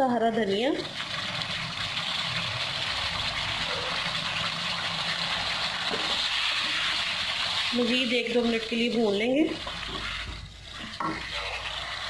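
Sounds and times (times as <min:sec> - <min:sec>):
chicken sizzling in a pan: 0:01.0 - 0:12.0.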